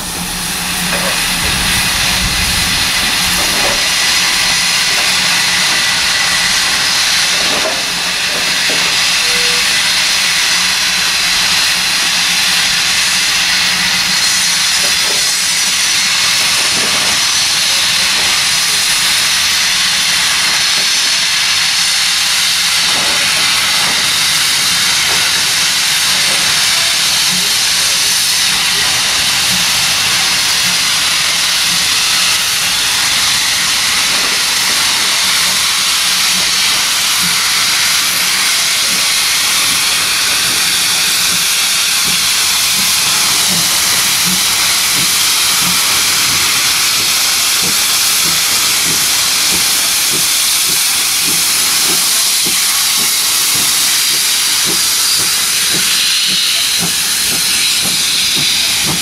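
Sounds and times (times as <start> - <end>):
steam locomotive venting steam: 0.0 - 59.0.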